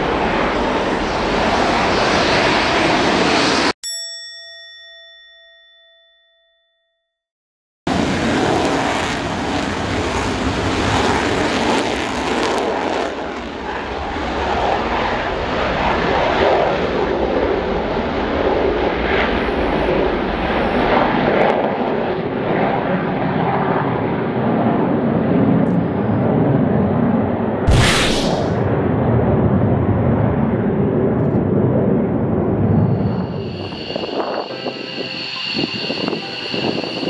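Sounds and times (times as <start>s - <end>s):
jet engines in afterburner: 0.0s - 3.8s, 7.9s - 37.0s.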